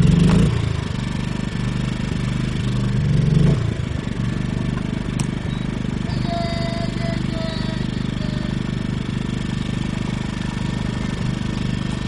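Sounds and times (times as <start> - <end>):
generator engine starting and running: 0.0 - 12.0.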